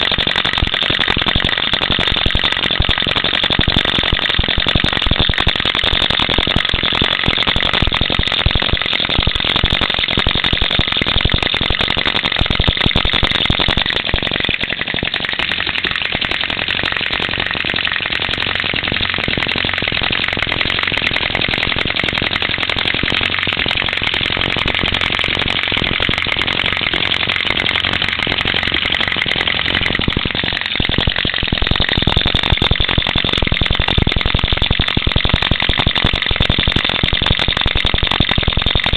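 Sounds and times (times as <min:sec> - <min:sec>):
small engine mechanical clatter: 0:00.0 - 0:38.9.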